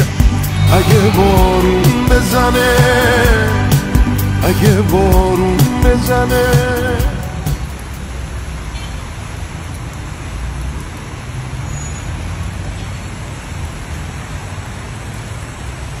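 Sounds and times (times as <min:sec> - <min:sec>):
low traffic rumble: 0:00.0 - 0:16.0
rain hiss: 0:00.0 - 0:16.0.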